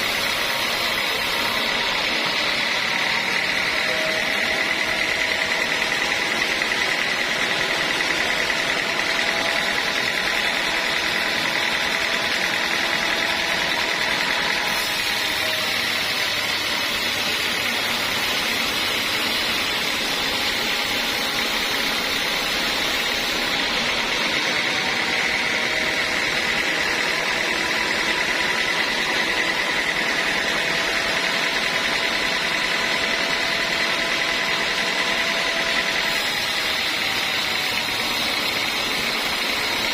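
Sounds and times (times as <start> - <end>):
band saw whining: 0.0 - 39.9
blade sawing through log: 0.0 - 39.9.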